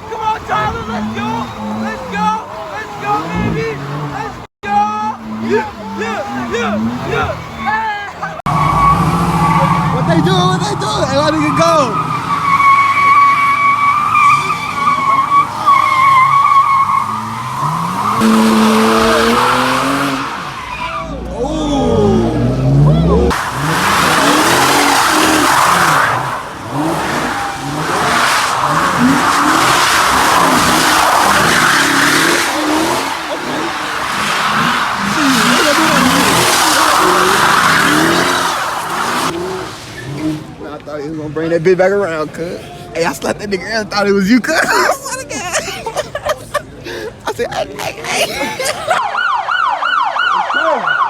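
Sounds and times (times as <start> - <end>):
car tyres squealing: 0.0 - 51.0
car engine revving: 0.4 - 42.4.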